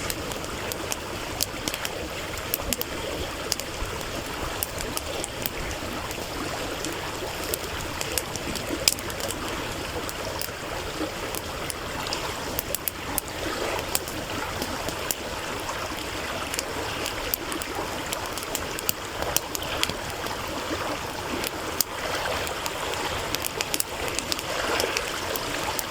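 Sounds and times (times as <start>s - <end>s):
campfire crackling and popping: 0.0s - 25.9s
stream flowing: 0.0s - 25.9s.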